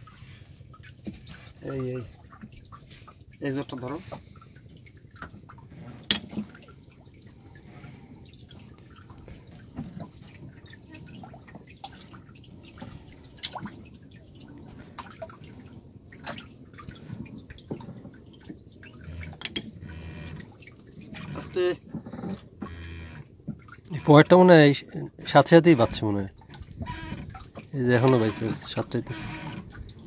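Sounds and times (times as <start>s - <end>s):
water dripping and splashing: 0.0s - 30.0s.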